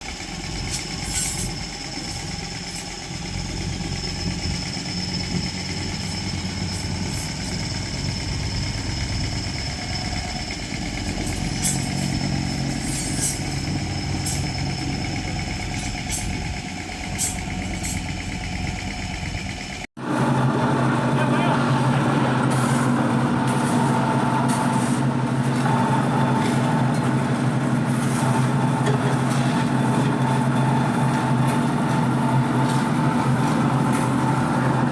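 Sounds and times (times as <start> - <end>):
machinery engine running: 0.0 - 34.9.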